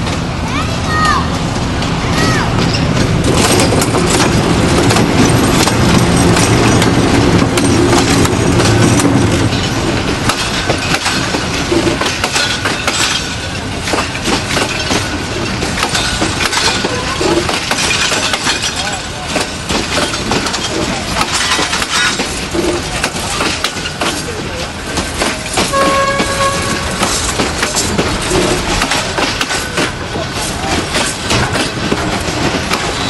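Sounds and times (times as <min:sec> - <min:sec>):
train engine drone: 0:00.0 - 0:33.0
train wheels clicking over rail joints: 0:00.0 - 0:33.0.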